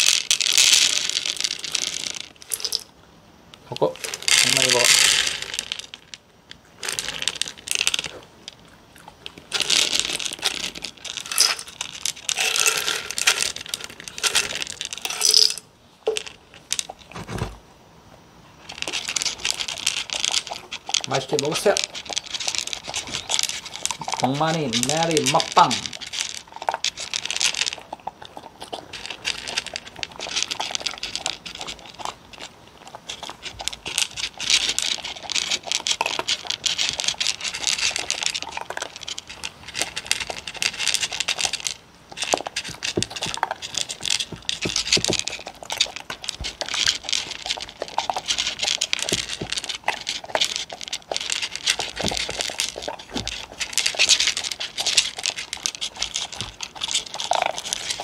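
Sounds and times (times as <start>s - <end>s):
kibble scraping in bowls: 0.0s - 2.9s, 3.6s - 17.6s, 18.5s - 58.0s
dogs crunching dry kibble: 0.0s - 17.6s, 18.5s - 58.0s.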